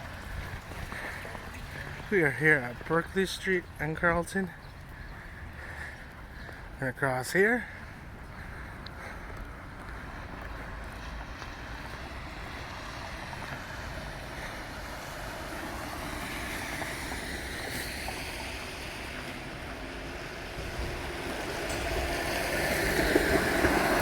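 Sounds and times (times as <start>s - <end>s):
traffic noise: 0.0s - 24.0s
vehicle approaching: 0.0s - 24.0s
wind: 0.0s - 24.0s.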